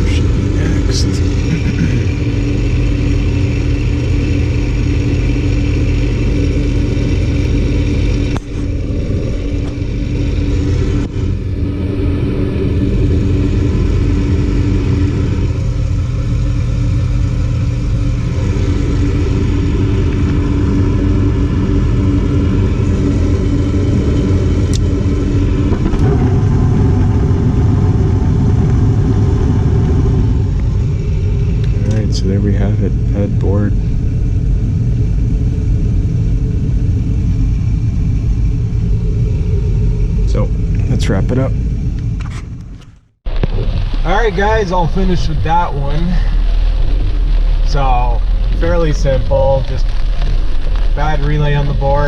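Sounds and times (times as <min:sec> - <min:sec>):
furnace motor hum: 0:00.0 - 0:52.0.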